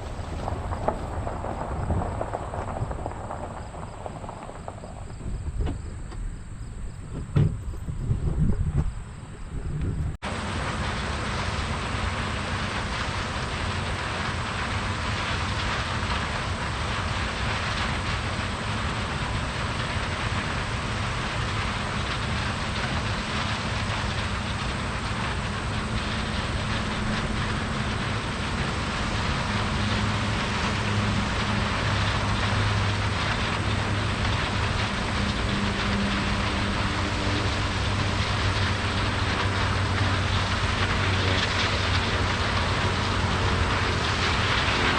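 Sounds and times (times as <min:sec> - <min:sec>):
heavy vehicle engine running: 0:00.0 - 0:44.9.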